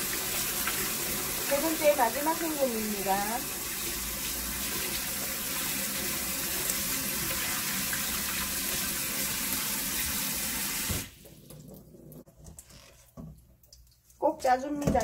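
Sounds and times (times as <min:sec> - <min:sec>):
tap water pouring into pot: 0:00.0 - 0:14.2.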